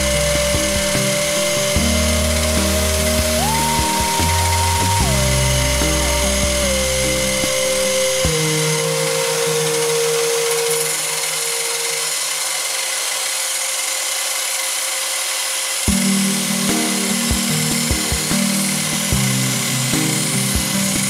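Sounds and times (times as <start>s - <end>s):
background music: 0.0s - 12.2s, 15.9s - 21.0s.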